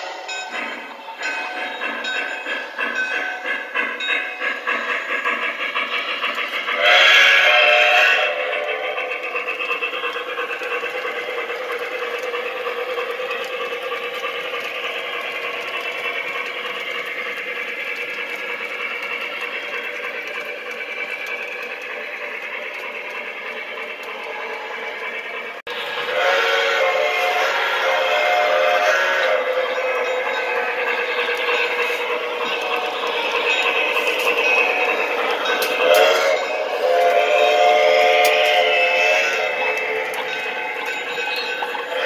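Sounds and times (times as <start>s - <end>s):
model train running on track: 0.0s - 42.0s.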